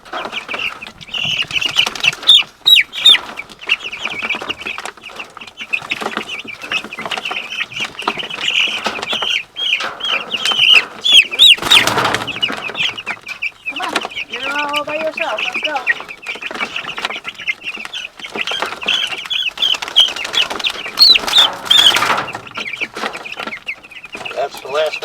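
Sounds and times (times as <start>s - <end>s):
chicks peeping: 0.0s - 25.0s.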